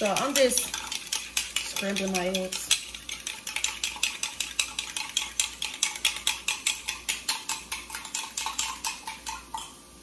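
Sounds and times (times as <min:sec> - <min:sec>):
whisk clicking against cup: 0:00.0 - 0:09.8.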